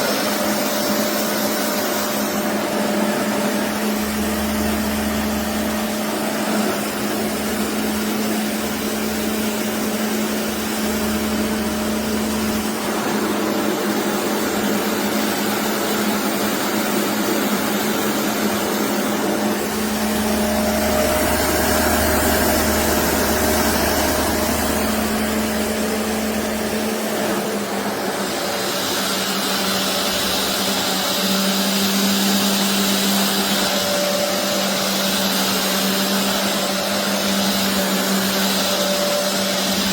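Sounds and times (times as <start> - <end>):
carpet washer suction motor: 0.0 - 39.9.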